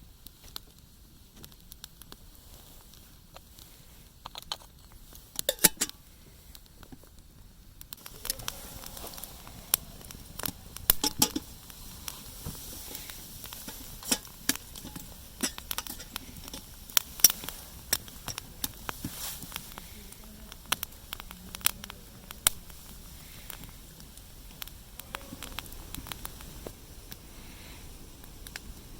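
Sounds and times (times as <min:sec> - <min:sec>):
soft steady hiss: 0:00.0 - 0:28.9
wood fire crackling: 0:00.0 - 0:28.9.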